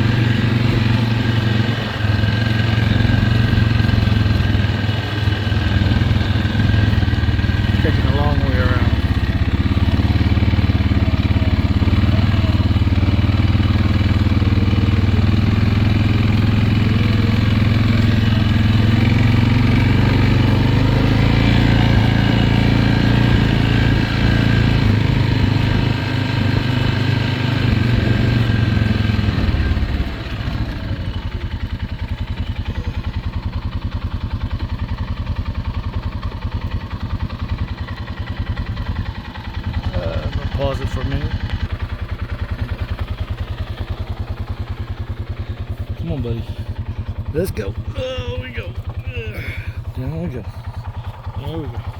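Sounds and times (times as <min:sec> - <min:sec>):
riding lawn mower engine: 0:00.0 - 0:51.9.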